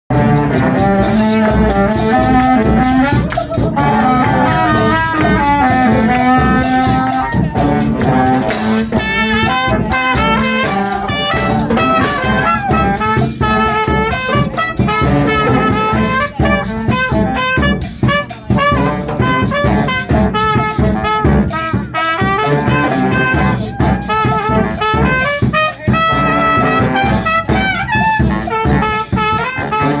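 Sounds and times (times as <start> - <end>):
drums keeping a beat: 0.1 - 30.0
horns playing in harmony: 0.1 - 30.0.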